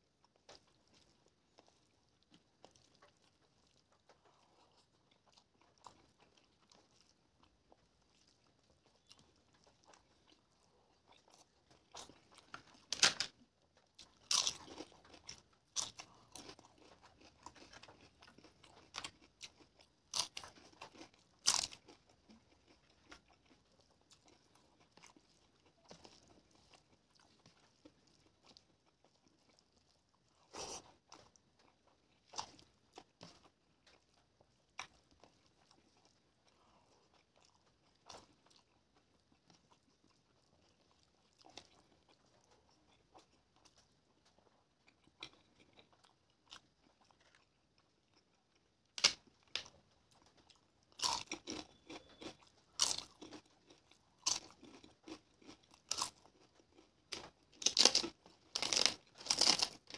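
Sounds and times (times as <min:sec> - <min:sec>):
soft chewing: 0:00.0 - 0:59.9
crisp food crunching: 0:00.2 - 0:59.9.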